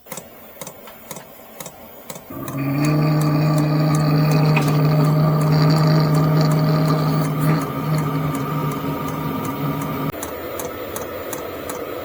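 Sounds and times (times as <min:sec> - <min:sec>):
blower fan humming: 0:02.3 - 0:12.0.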